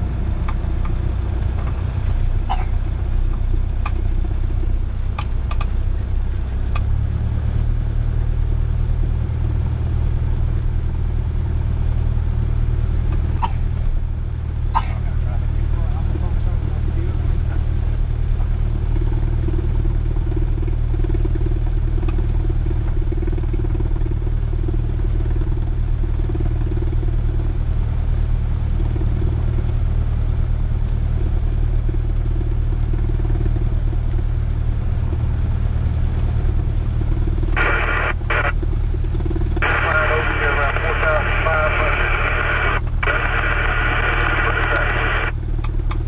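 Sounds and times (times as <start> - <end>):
aircraft engine and propeller droning: 0.0 - 46.0.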